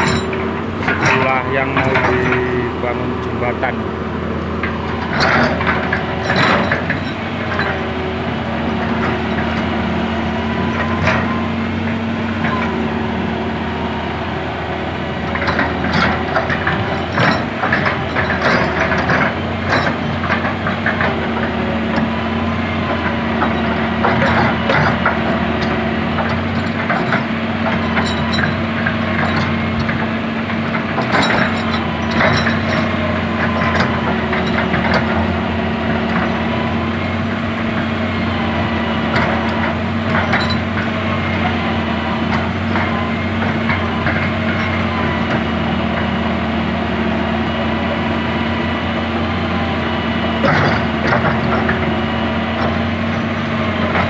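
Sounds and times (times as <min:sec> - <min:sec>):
excavator diesel engine running: 0:00.0 - 0:54.0
hydraulic whine: 0:00.0 - 0:54.0.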